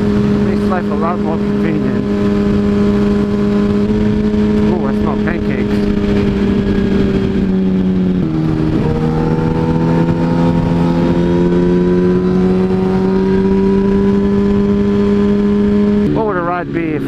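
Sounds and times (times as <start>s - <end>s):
motorcycle engine running: 0.0s - 17.0s
wind rush: 1.5s - 16.2s.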